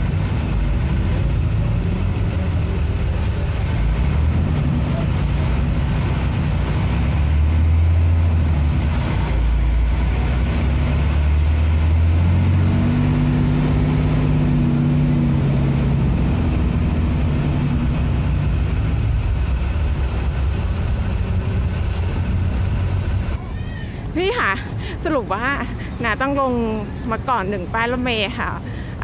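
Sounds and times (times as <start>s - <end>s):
bus engine rumbling: 0.0s - 29.0s.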